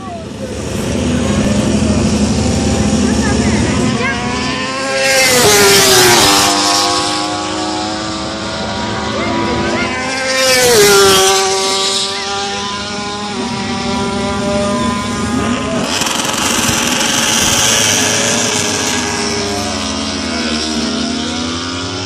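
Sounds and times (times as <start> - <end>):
race motorcycles revving: 0.0 - 22.0.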